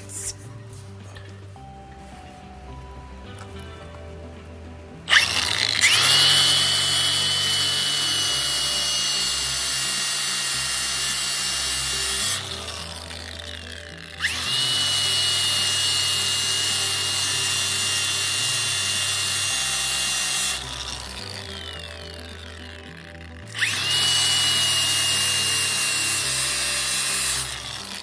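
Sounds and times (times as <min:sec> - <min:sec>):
power grinder whining: 0:00.0 - 0:28.0.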